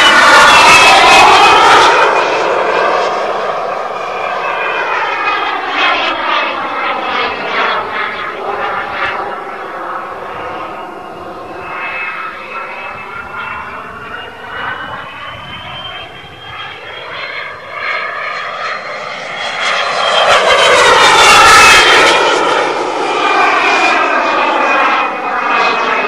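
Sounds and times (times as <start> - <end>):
model jet engine whine: 0.0 - 26.0.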